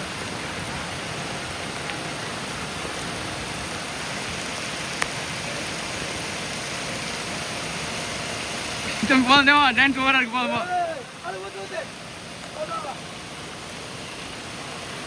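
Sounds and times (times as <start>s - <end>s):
rush of falling water: 0.0s - 15.0s.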